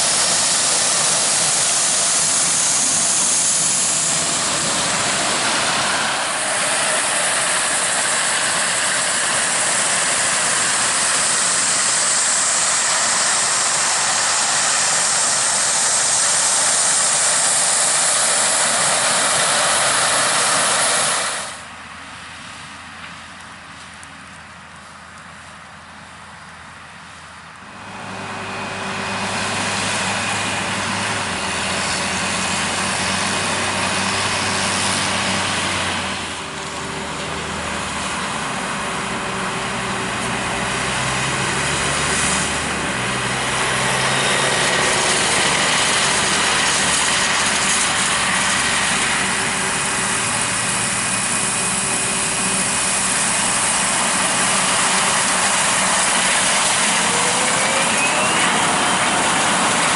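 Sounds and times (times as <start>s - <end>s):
wide rushing noise: 0.0s - 21.8s, 27.8s - 59.9s
diesel engine hum: 0.0s - 59.9s.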